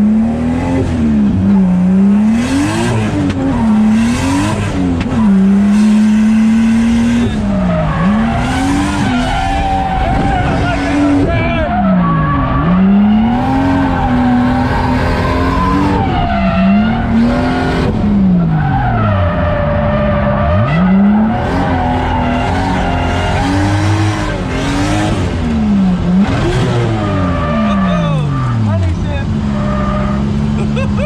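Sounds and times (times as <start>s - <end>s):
car engine revving hard: 0.0s - 31.0s
tyres squealing and skidding: 3.1s - 25.1s, 26.3s - 31.0s.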